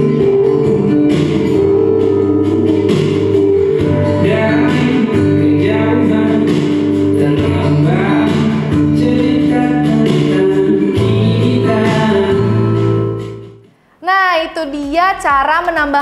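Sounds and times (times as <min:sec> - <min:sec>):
song with singing voice and bass: 0:00.0 - 0:13.7.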